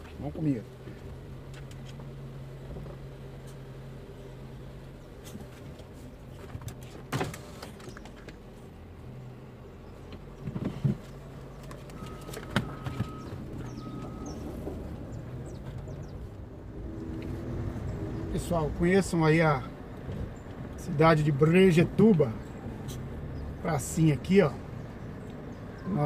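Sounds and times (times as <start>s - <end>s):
car engine hum inside cabin: 0.0s - 26.0s.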